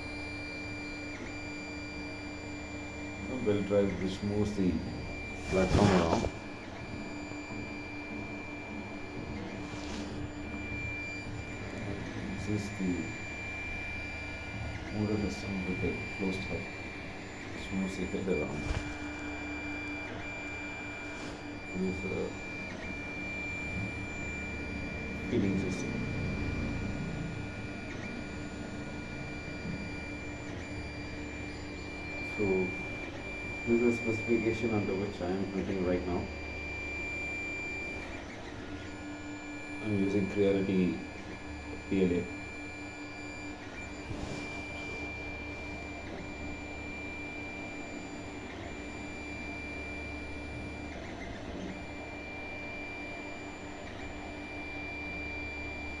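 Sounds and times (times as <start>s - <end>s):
stepper motors whining: 0.2s - 55.8s.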